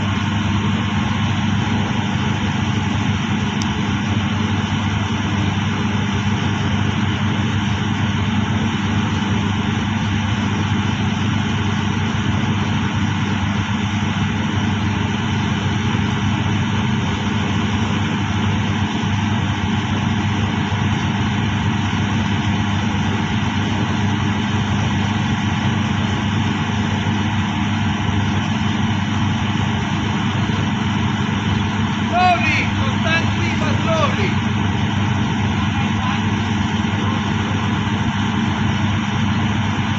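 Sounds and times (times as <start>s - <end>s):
deep hum: 0.0s - 39.9s
drilling rig engines droning: 0.0s - 39.9s.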